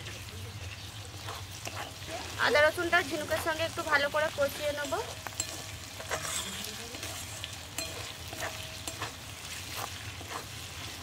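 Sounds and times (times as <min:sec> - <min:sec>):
food sizzling in a pan: 0:00.0 - 0:11.0
metal spatula scraping a pan: 0:00.8 - 0:11.0.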